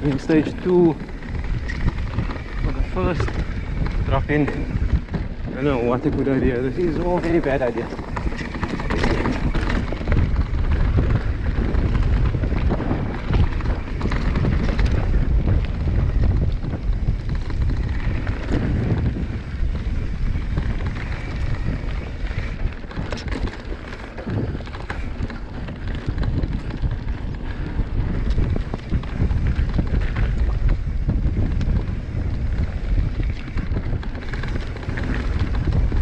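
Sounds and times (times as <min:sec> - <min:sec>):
bike rattling over rocks: 0:00.0 - 0:36.0
wind on microphone: 0:00.0 - 0:36.0.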